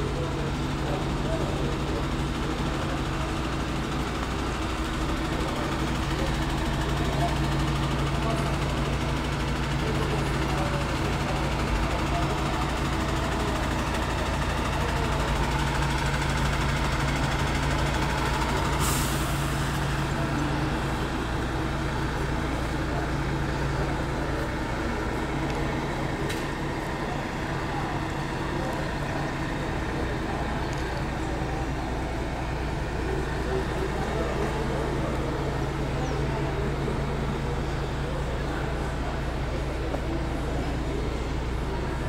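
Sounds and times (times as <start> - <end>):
diesel truck engine idling: 0.0 - 42.0.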